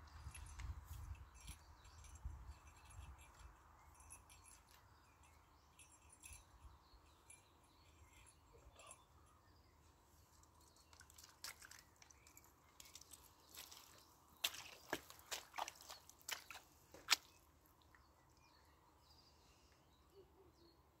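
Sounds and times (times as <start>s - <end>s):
faint outdoor background: 0.0s - 21.0s.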